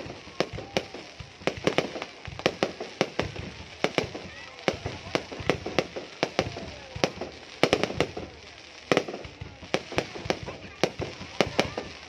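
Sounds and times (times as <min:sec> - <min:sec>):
fireworks bursting bangs: 0:00.0 - 0:12.0
fireworks crackling hiss: 0:00.0 - 0:12.0.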